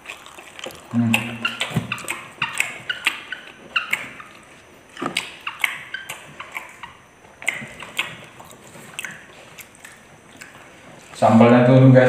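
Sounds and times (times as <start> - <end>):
lip smacking and chewing: 0.0 - 11.2.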